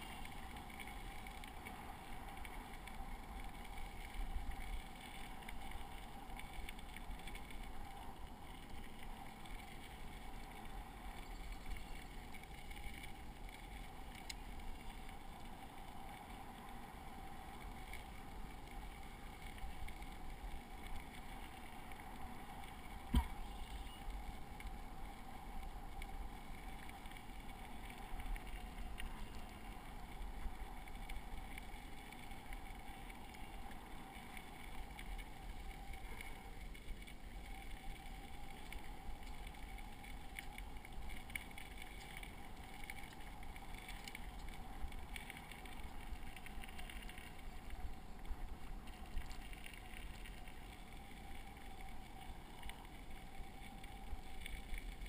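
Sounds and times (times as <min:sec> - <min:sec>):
bicycle tyres rumbling on gravel: 0:00.0 - 0:55.0.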